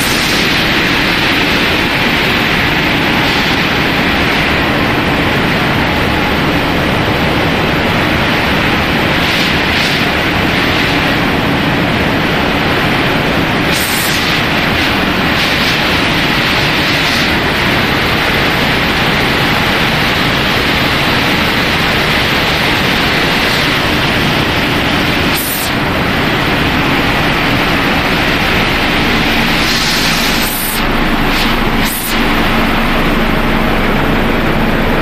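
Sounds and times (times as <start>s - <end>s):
loud steady machinery noise: 0.0s - 35.0s.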